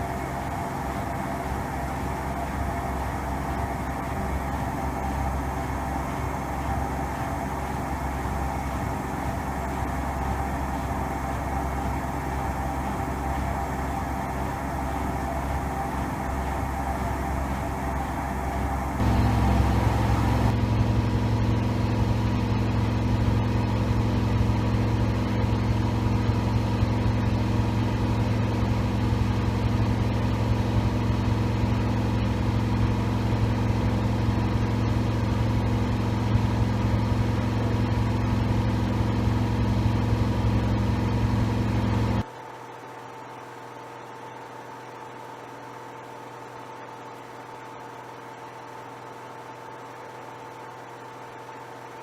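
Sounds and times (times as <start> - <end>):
washing machine spinning hum: 0.0 - 52.0.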